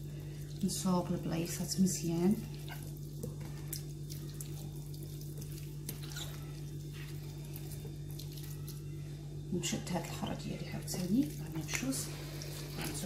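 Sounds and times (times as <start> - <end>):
hands squishing wet chicken: 0.0 - 9.0, 10.2 - 13.0
steady low hum: 0.0 - 13.0.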